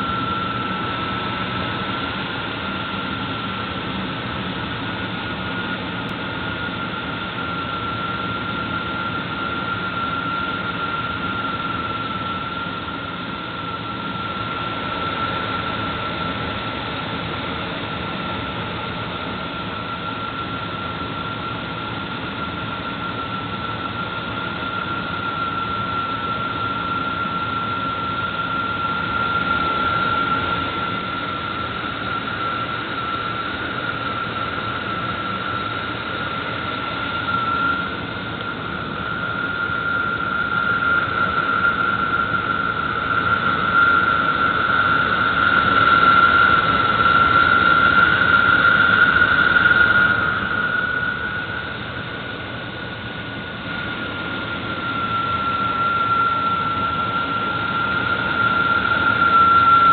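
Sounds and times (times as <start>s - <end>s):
high-pitched belt whine: 0.0s - 59.9s.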